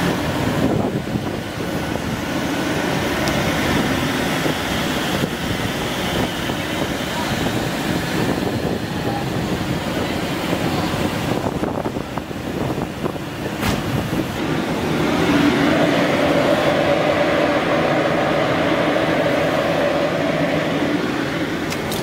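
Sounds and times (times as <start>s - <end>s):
roasting machine drone: 0.0s - 22.0s.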